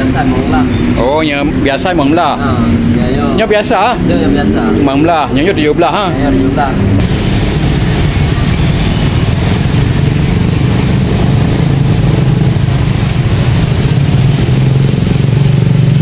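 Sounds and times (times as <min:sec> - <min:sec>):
engine hum wavering in pitch: 0:00.0 - 0:16.0
motorcycle engines passing: 0:00.0 - 0:16.0.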